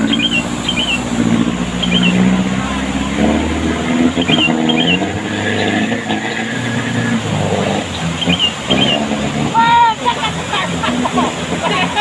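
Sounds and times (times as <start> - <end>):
rushing river water: 0.0 - 12.0
truck engine revving: 0.0 - 12.0.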